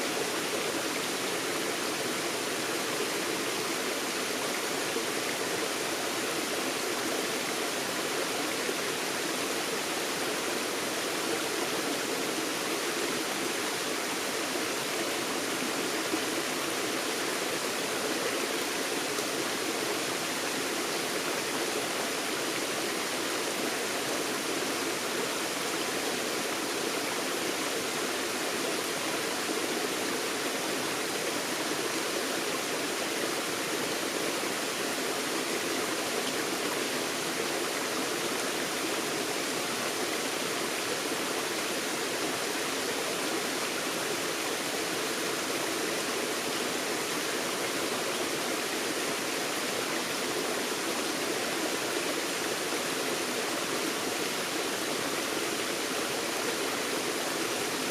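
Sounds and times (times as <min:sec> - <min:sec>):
stream flowing over rocks: 0:00.0 - 0:57.9.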